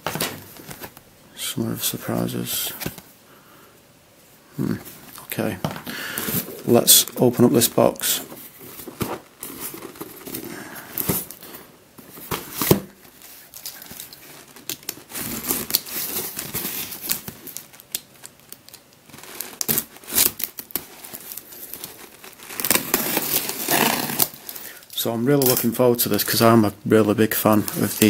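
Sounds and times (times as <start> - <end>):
plastic wrap crinkling and tearing: 4.6 - 28.0.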